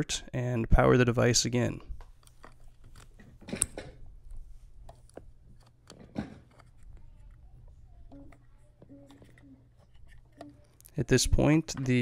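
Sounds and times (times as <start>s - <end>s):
cables and plugs handled: 2.0s - 12.0s.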